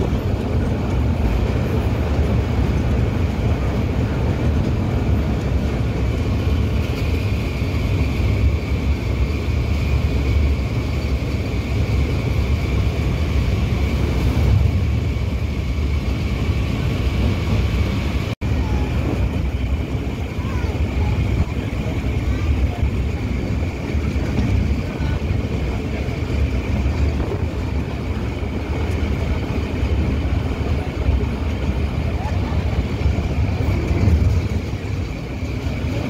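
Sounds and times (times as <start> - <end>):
train rumbling over bridge: 0.0 - 36.0.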